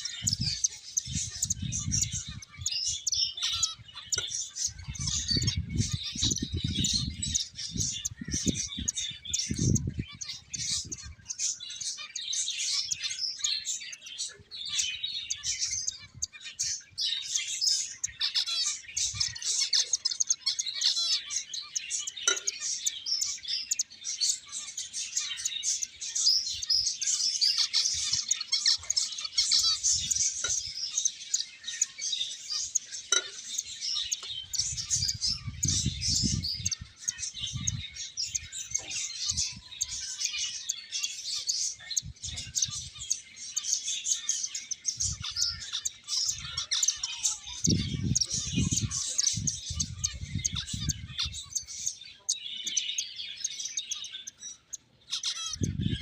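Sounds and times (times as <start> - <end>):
finches chirping: 0.0 - 56.0.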